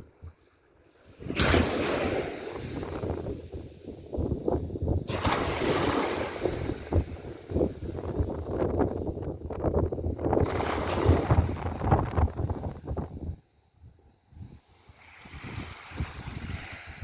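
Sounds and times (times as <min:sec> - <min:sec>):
sea waves washing in: 0:00.0 - 0:09.1, 0:10.2 - 0:13.0, 0:14.4 - 0:17.0
wind buffeting microphone: 0:01.1 - 0:17.0.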